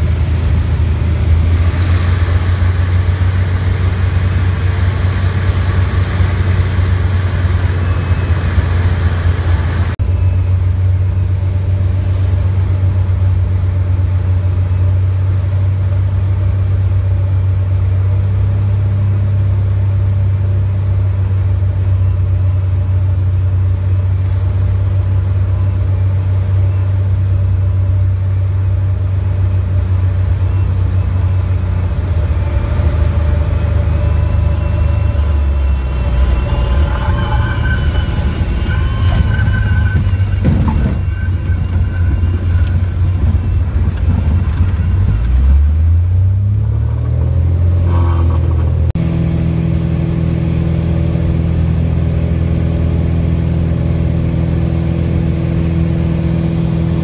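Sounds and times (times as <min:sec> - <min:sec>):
aircraft engine and propeller drone: 0:00.0 - 0:46.4.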